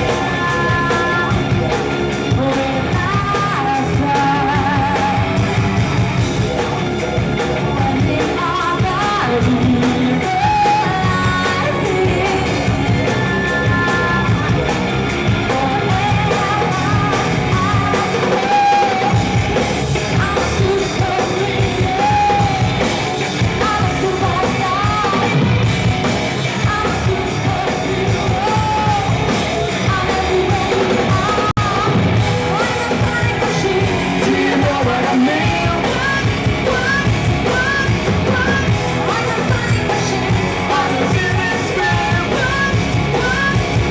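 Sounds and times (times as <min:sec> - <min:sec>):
loud rock band with singer: 0:00.0 - 0:43.9.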